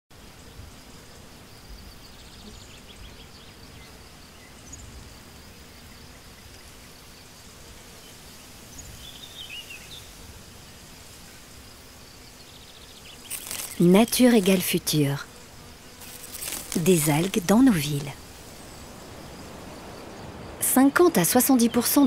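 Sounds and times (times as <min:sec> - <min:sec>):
high insect hum: 0:00.1 - 0:22.0.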